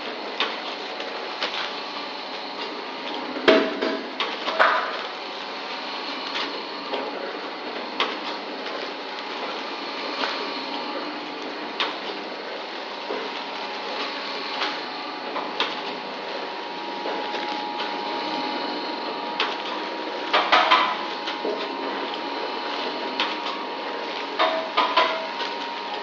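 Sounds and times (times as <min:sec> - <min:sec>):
packaging machine hum: 0:00.0 - 0:26.0.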